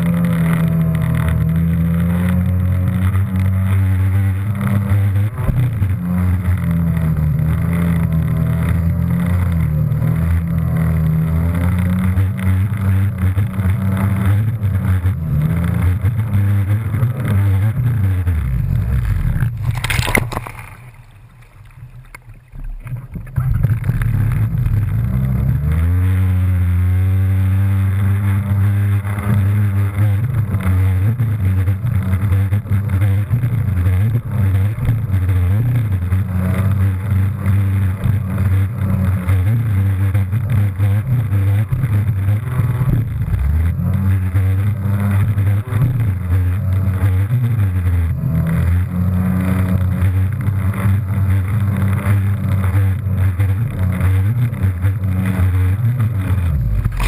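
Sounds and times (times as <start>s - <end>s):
jet ski engine revving: 0.0s - 57.0s.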